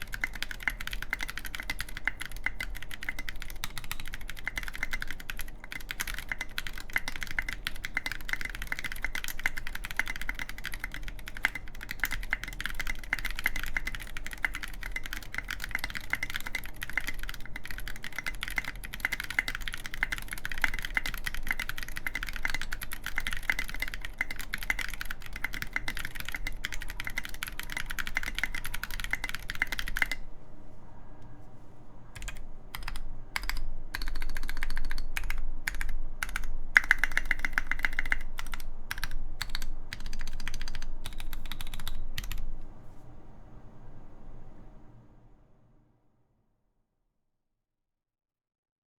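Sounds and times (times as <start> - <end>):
typing on mechanical keyboard: 0.0 - 30.2, 32.2 - 42.5.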